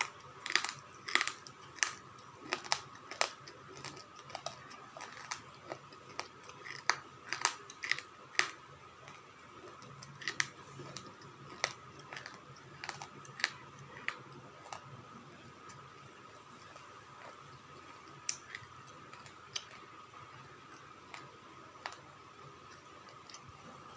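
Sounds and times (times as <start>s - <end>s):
pencils being bitten and chewed: 0.0s - 23.8s.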